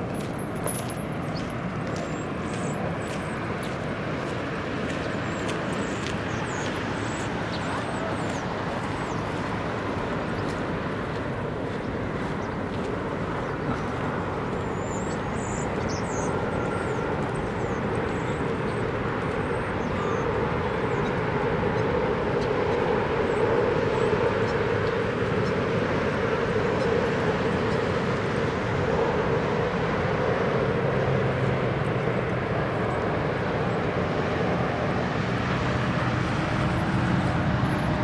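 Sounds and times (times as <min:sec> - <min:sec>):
airplane engine rumble: 0:00.0 - 0:38.0.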